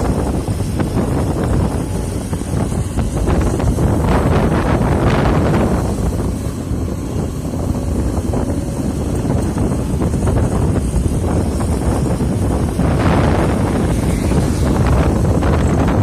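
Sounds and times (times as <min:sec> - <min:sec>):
diesel engine rumbling: 0:00.0 - 0:16.0
wind buffeting microphone: 0:00.0 - 0:16.0.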